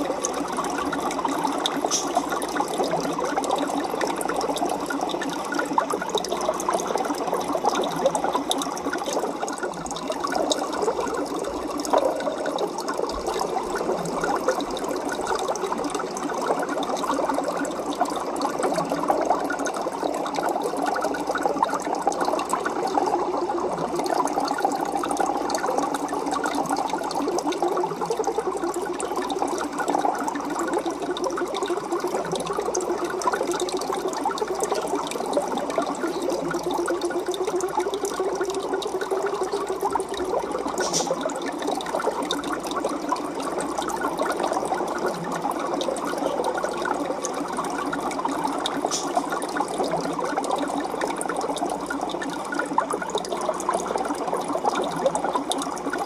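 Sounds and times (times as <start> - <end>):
aquarium water bubbling: 0.0 - 56.0.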